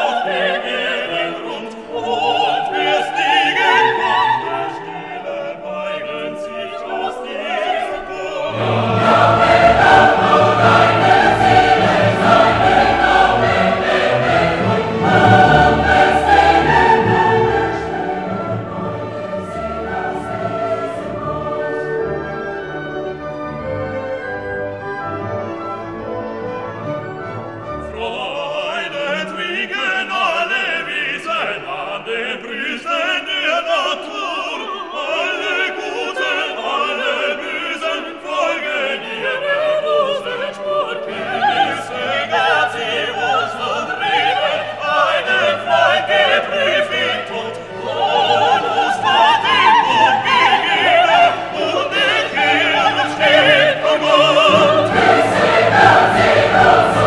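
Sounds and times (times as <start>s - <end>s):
choir singing: 0.0s - 57.0s
orchestral strings: 0.0s - 57.0s.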